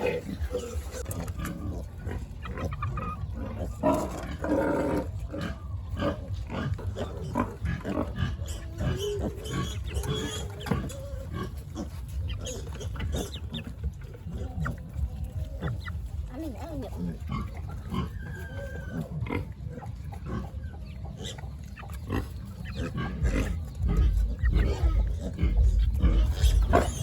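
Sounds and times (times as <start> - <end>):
pigs grunting: 0.0 - 27.0.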